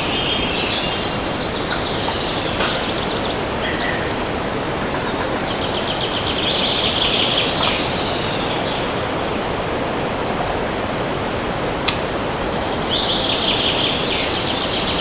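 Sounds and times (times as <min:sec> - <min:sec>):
songbird singing: 0:00.0 - 0:15.0
wind in trees: 0:00.0 - 0:15.0.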